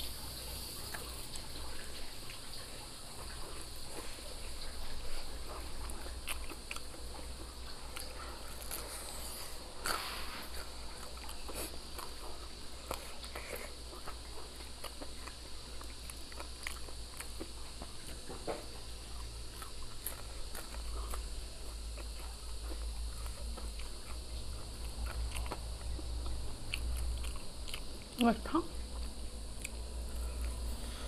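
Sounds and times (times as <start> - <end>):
crunching fried chicken: 0.0 - 31.0
steady low hum: 0.0 - 31.0.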